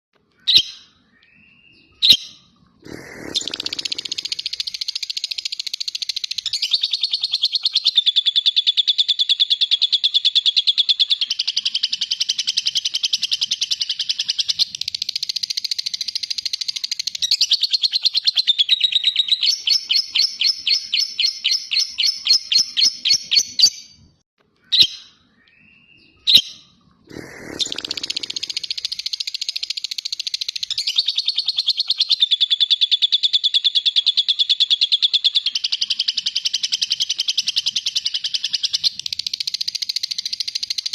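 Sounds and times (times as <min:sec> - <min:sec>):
bird chirps: 0:00.2 - 0:40.9
lovebird chattering trill: 0:02.0 - 0:23.8, 0:26.3 - 0:40.9.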